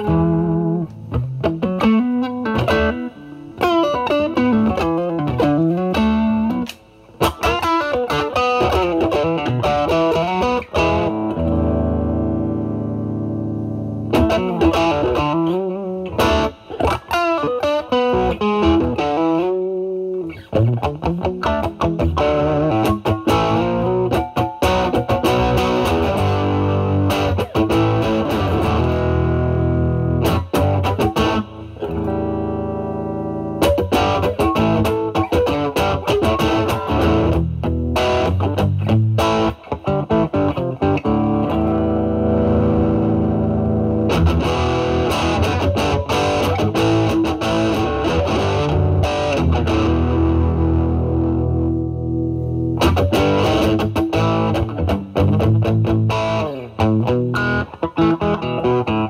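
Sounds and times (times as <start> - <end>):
overdriven electric guitar: 0.0 - 59.0.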